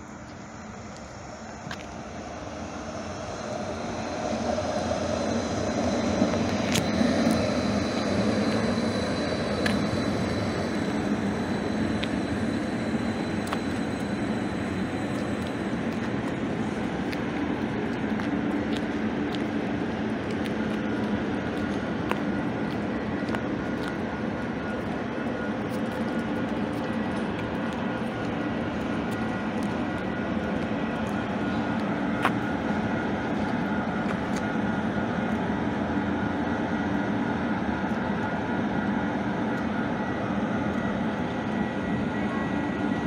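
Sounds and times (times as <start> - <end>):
faint high whine: 0.0 - 43.0
train wheels rumbling on rails: 0.0 - 43.0.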